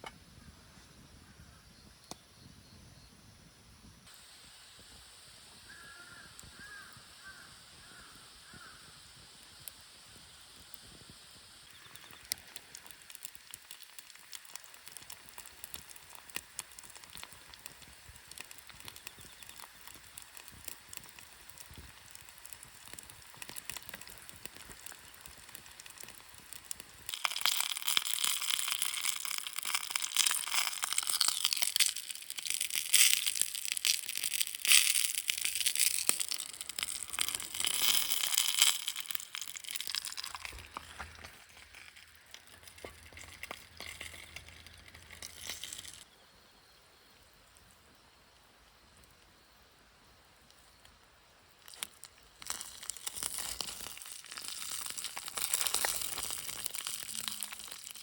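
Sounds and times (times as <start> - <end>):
loud crackling sizzle: 3.8 - 46.2, 47.4 - 58.0
campfire crackling: 4.0 - 46.6, 47.2 - 58.0.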